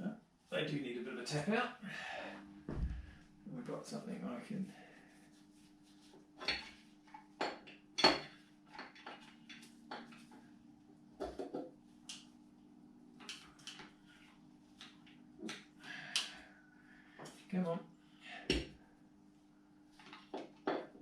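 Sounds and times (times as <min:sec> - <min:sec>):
faint steady hum: 0:00.0 - 0:20.1.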